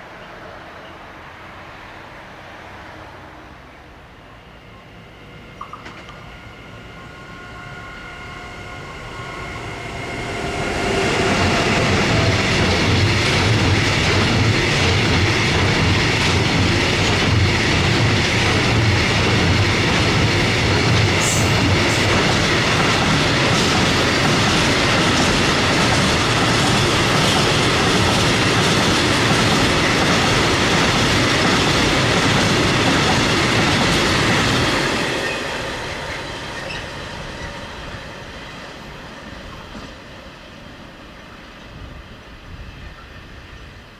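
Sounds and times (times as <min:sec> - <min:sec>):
freight train wagons rumbling: 0:04.2 - 0:43.9.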